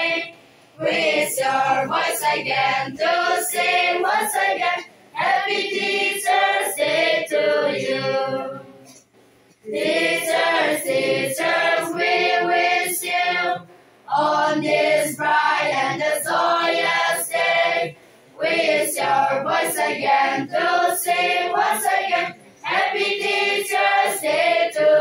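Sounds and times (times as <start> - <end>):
girls choir singing: 0.0 - 8.9, 9.6 - 25.0.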